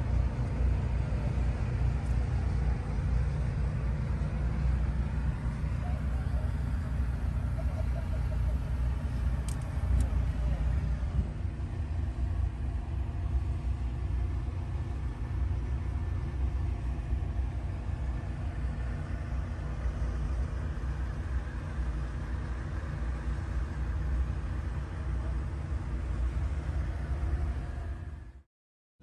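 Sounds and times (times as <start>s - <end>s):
diesel engine idling: 0.0s - 28.4s.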